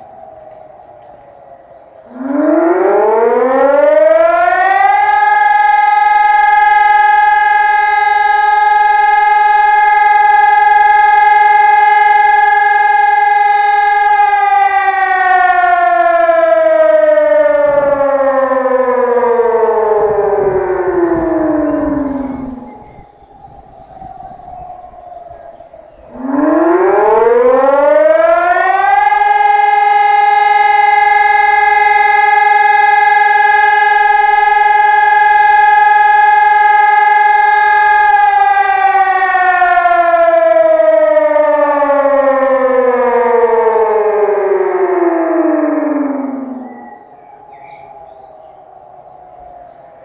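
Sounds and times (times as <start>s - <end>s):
siren tone: 0.0s - 50.0s.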